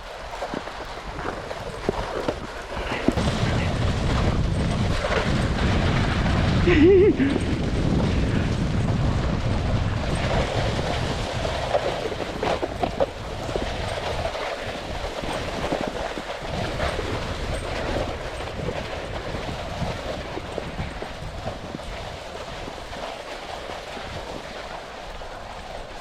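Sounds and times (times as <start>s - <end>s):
snowboard scraping over snow: 0.0s - 26.0s.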